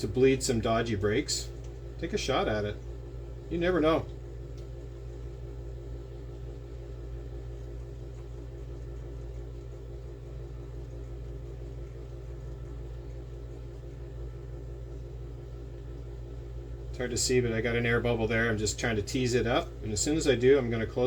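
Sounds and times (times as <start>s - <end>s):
machine humming with fast pulse: 0.0s - 21.0s.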